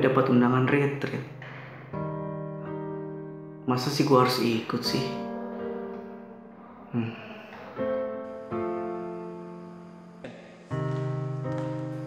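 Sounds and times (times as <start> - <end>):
soft piano: 0.0 - 12.0.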